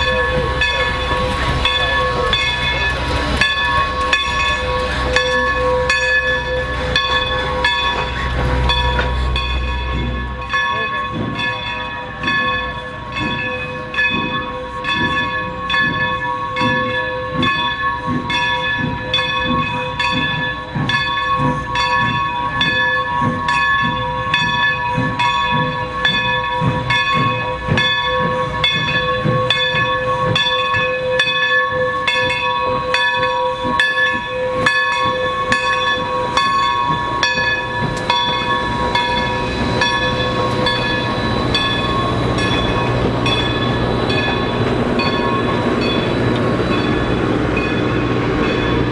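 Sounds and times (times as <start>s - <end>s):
locomotive bell ringing: 0.0s - 48.9s
low rumble of train: 0.0s - 48.9s.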